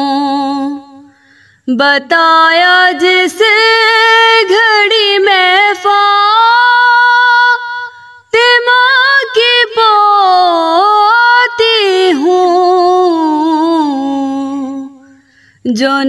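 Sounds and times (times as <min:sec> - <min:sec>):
woman singing a lament: 0:00.0 - 0:16.0.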